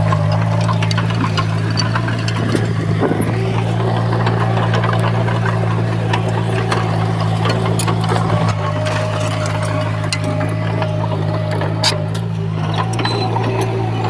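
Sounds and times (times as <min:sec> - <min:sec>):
heavy diesel engine running: 0:00.0 - 0:14.0
metallic clicks and rattles: 0:00.0 - 0:14.0.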